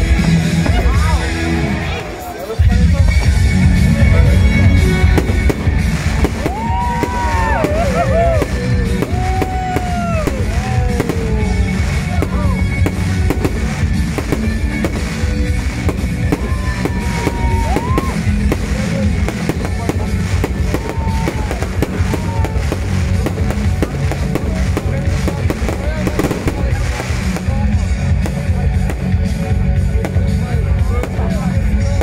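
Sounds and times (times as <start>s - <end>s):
fireworks bangs and crackling: 0.0s - 32.0s
loud music playing: 0.0s - 32.0s.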